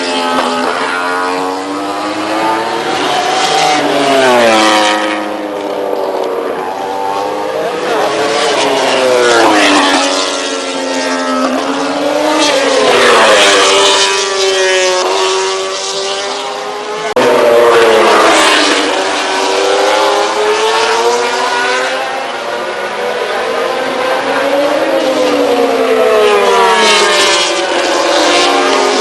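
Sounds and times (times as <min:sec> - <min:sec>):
racing motorcycle engines revving: 0:00.0 - 0:29.0.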